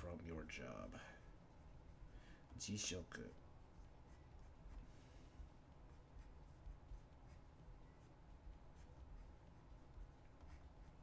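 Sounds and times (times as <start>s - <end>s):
pen scratching on paper: 0.0s - 11.0s.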